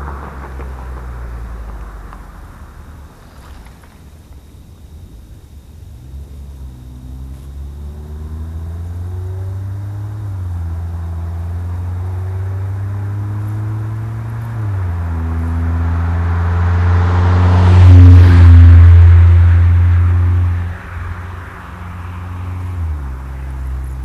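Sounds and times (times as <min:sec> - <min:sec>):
car engine accelerating past: 0:00.0 - 0:03.8, 0:06.0 - 0:24.0.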